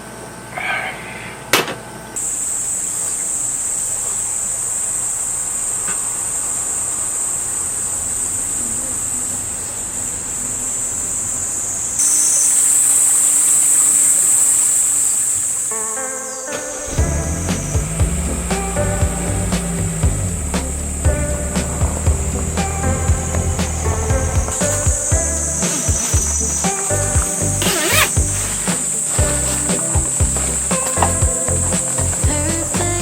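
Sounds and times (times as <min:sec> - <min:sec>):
insects chirring: 0:01.1 - 0:33.0.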